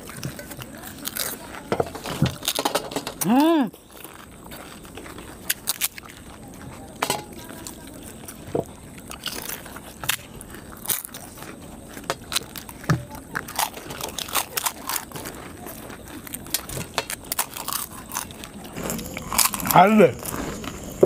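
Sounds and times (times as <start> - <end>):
crisp shells crunching: 0.0 - 21.0.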